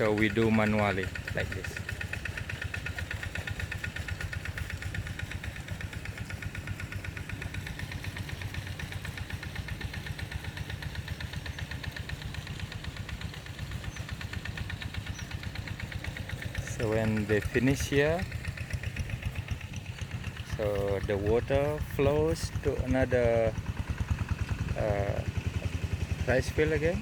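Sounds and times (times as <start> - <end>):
small tractor engine running: 0.0 - 27.0.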